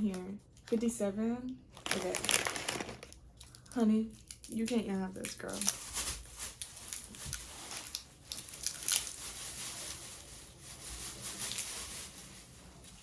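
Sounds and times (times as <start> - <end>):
plastic snack package crinkling: 1.7 - 13.0.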